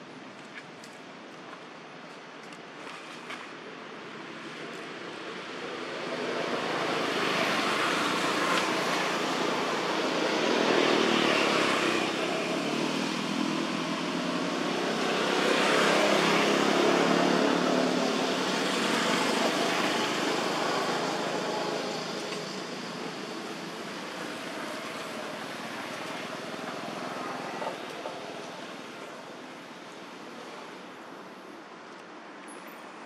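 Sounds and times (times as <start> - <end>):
vehicles passing: 3.3 - 33.0.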